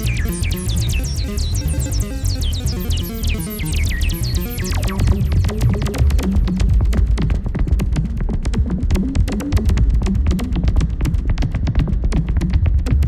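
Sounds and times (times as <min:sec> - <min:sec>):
fast electronic clicking: 0:00.0 - 0:13.0.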